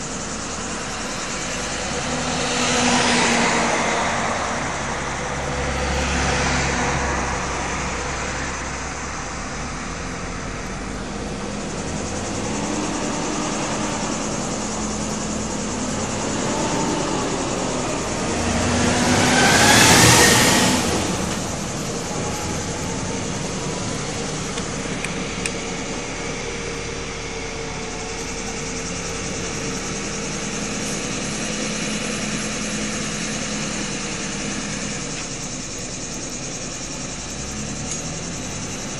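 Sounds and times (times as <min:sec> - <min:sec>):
heavy trucks passing: 0:00.0 - 0:38.9
steady traffic engine drone: 0:00.0 - 0:38.9.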